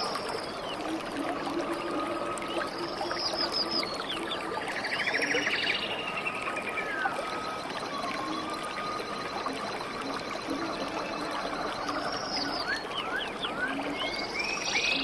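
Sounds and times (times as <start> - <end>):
running water: 0.0 - 15.0
songbirds singing: 0.0 - 15.0.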